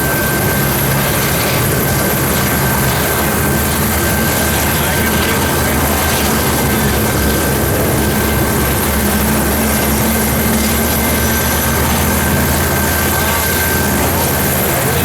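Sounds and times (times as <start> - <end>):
helicopter rotor and engine: 0.0 - 15.0
high turbine whine: 0.0 - 15.0.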